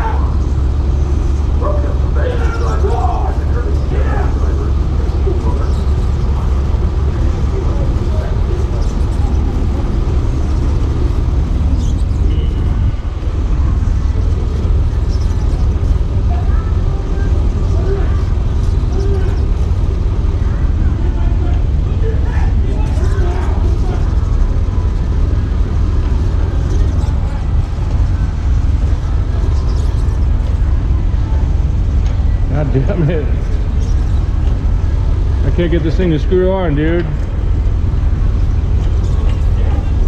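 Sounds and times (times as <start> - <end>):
diesel truck engine rumbling: 0.0 - 40.0.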